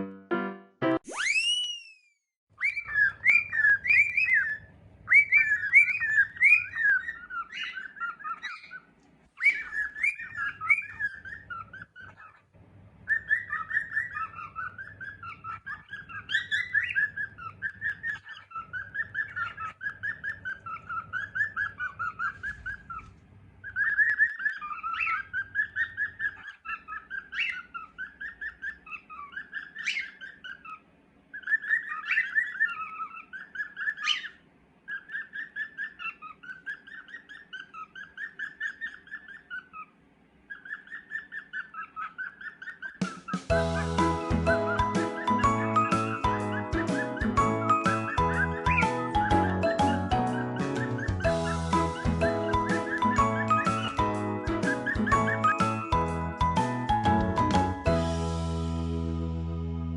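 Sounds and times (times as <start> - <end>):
cockatiel chirping and warbling: 2.6 - 57.8.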